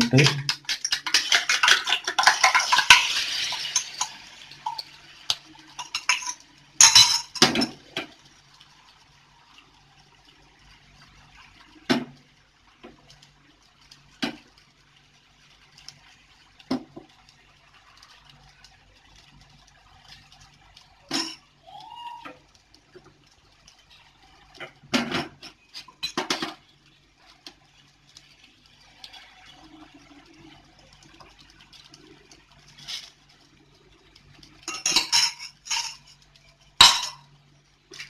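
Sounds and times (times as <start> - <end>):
egg sizzling on hot pan: 0.0 - 38.0.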